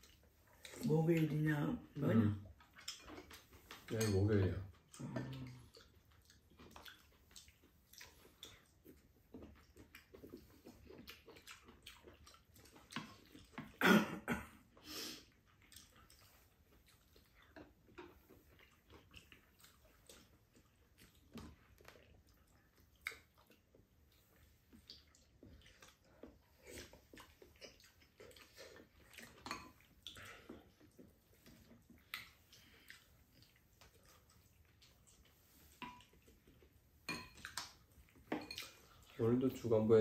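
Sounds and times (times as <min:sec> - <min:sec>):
chewing and slurping: 0:00.0 - 0:13.8, 0:14.5 - 0:40.0.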